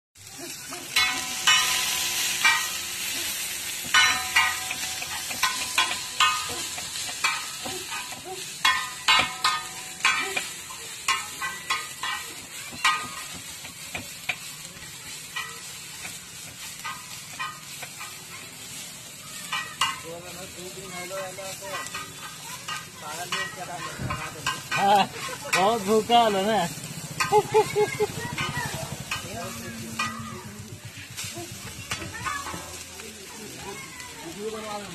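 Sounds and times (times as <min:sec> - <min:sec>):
vegetables sizzling on a griddle: 0:00.2 - 0:34.9
metal spatula striking a pan: 0:00.8 - 0:33.8.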